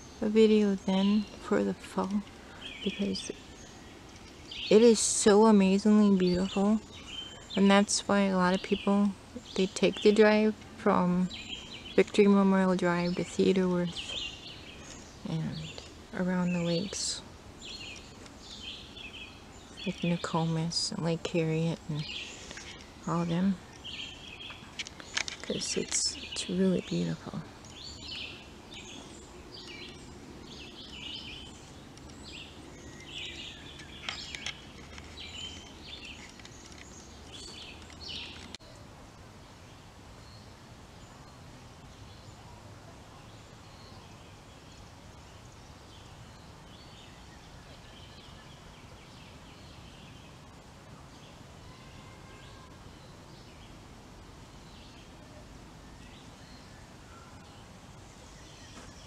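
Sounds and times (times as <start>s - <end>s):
low background noise: 0.0s - 59.0s
small birds chirping: 0.0s - 59.0s.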